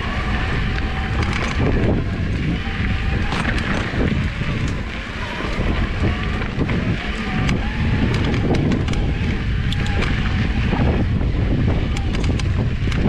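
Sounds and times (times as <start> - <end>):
bike clicks and rattles: 0.0 - 13.0
tyre rumble on dirt trail: 0.0 - 13.0
wind on microphone: 0.0 - 13.0.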